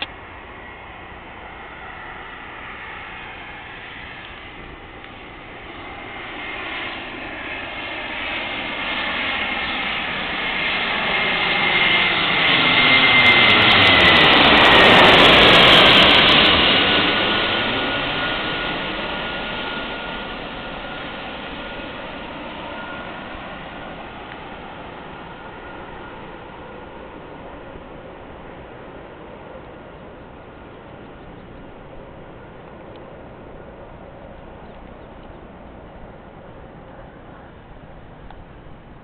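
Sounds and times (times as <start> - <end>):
jet airliner passing: 0.0 - 39.0.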